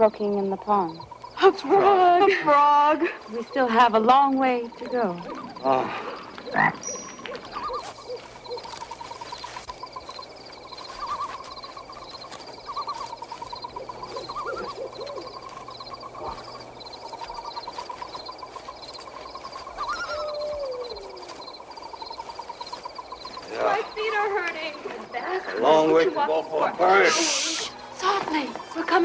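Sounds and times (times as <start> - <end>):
animal calls: 0.4 - 29.0.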